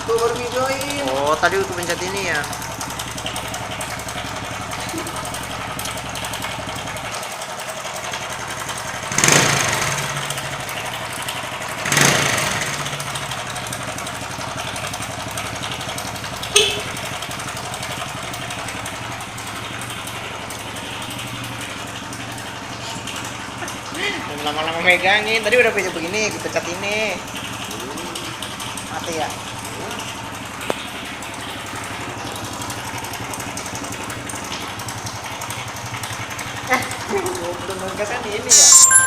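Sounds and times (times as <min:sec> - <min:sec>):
motorcycle engine running: 0:00.0 - 0:38.5.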